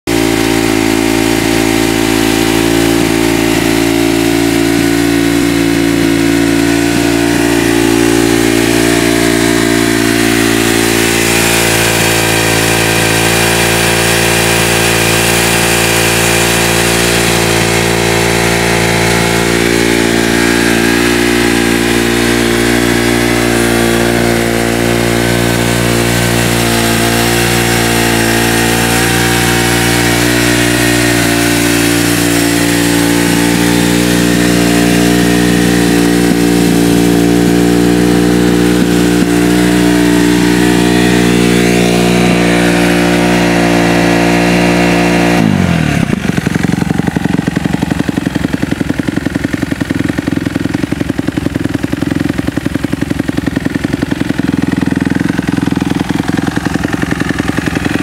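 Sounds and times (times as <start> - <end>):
motorcycle engine idling: 0.1 - 58.0.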